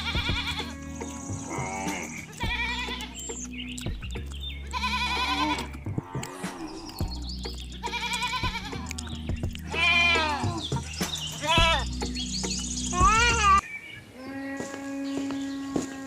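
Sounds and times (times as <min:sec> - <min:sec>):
goats or sheep bleating: 0:00.0 - 0:03.3, 0:04.6 - 0:12.0, 0:12.9 - 0:13.6, 0:14.2 - 0:16.0
background music: 0:00.0 - 0:13.6.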